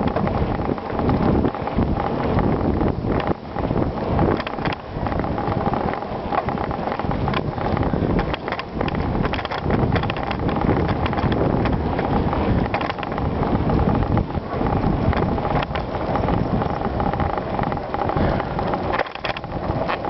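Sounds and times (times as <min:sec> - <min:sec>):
bike rattling and clicking: 0:00.0 - 0:20.0
tyres rolling on gravel: 0:00.0 - 0:20.0
wind buffeting microphone: 0:00.0 - 0:20.0.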